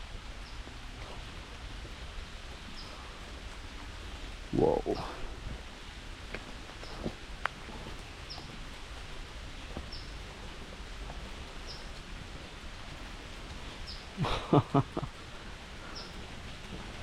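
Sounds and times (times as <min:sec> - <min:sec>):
rain falling on woods: 0:00.0 - 0:17.0.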